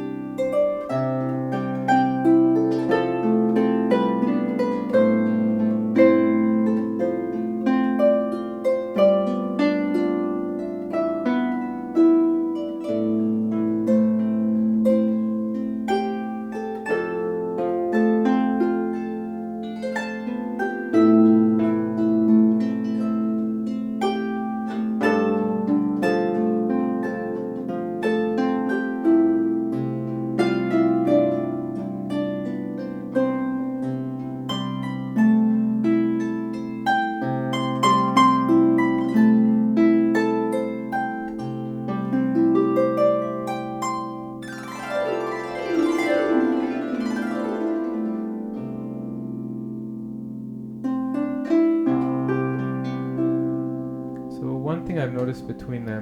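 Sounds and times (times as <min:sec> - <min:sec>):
harp playing a tune: 0:00.0 - 0:56.0.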